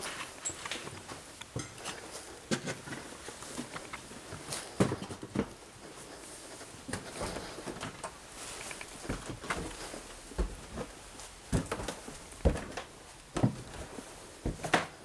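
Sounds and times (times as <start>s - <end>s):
footsteps on gritty stairs: 0.0s - 15.0s.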